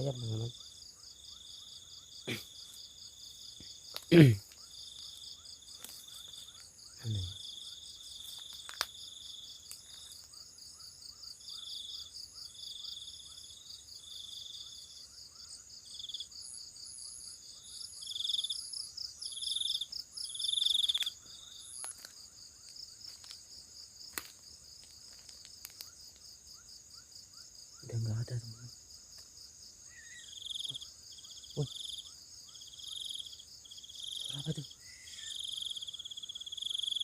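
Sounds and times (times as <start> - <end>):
crickets trilling: 0.0 - 37.0
insect pulsed trilling: 0.0 - 37.0.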